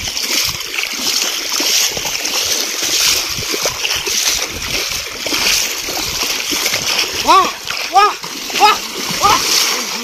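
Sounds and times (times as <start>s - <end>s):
legs wading through water: 0.0s - 10.0s.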